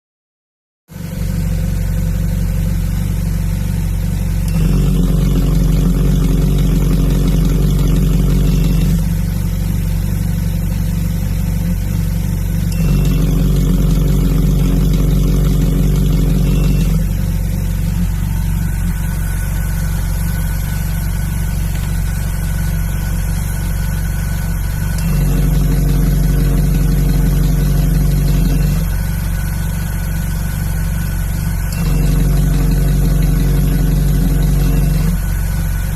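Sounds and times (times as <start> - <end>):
car engine idling: 0.9 - 35.9.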